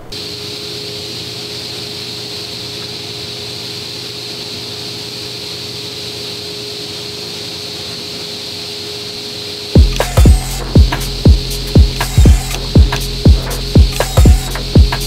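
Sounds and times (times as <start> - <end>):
workshop machinery whirring: 0.0 - 15.0.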